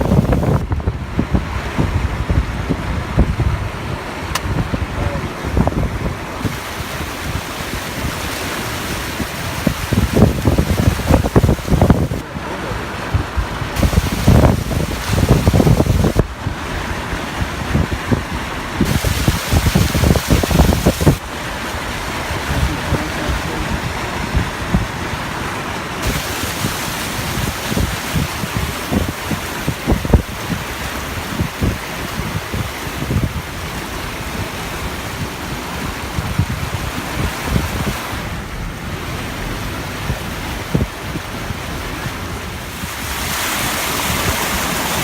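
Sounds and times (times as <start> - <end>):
steady rushing noise: 0.0 - 45.0
wind buffeting microphone: 0.0 - 45.0.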